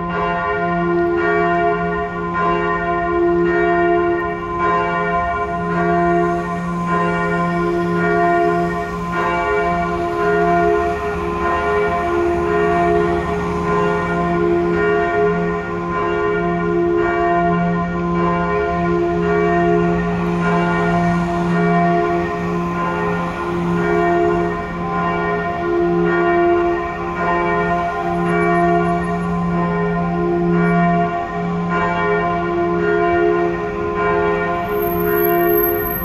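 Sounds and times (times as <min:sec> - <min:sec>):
church bell ringing: 0:00.0 - 0:36.0.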